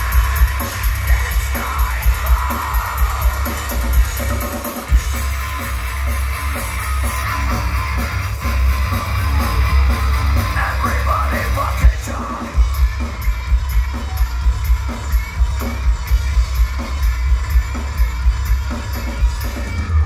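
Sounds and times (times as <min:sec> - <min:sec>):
bass guitar: 0:00.0 - 0:20.0
distorted guitars: 0:00.0 - 0:20.0
pounding drums: 0:00.0 - 0:20.0.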